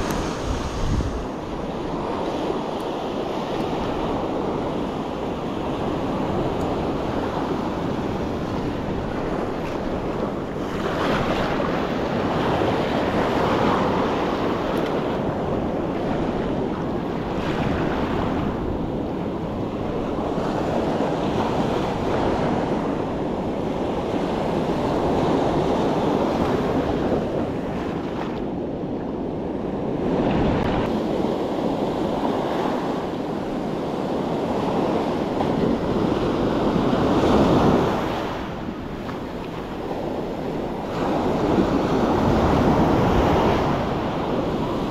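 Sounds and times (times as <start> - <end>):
ocean surf washing ashore: 0.0 - 44.9
wind buffeting the microphone: 0.0 - 44.9.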